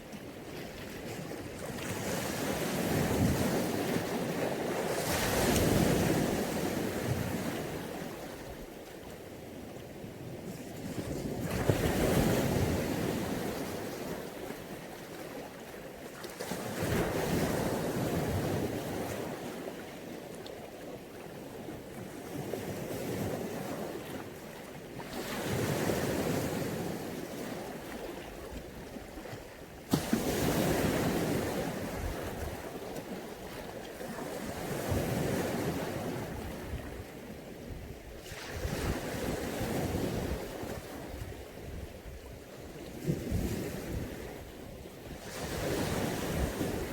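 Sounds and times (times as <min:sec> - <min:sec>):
waves breaking on beach: 0:00.0 - 0:46.9.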